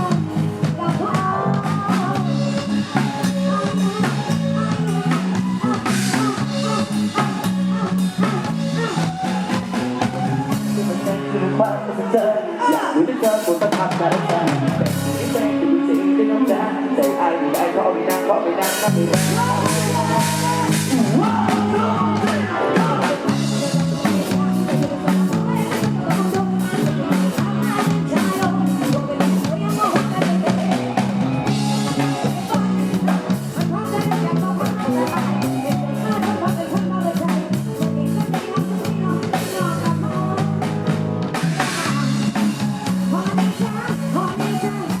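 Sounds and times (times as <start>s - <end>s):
drum beat: 0.0s - 11.0s, 19.0s - 45.0s
bending melody line: 0.0s - 12.5s, 13.6s - 45.0s
bass line: 0.0s - 45.0s
person singing: 0.0s - 45.0s
pop band music over sound system: 0.0s - 45.0s.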